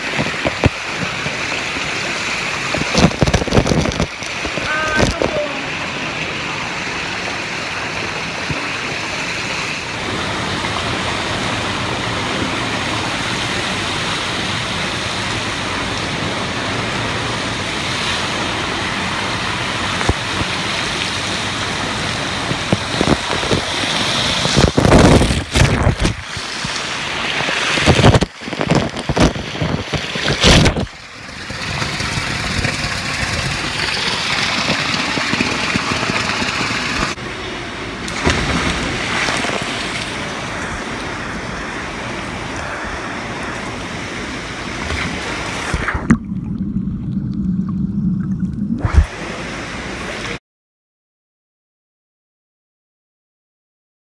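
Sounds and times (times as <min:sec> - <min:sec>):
water jets splashing into pool: 0:00.0 - 0:50.4.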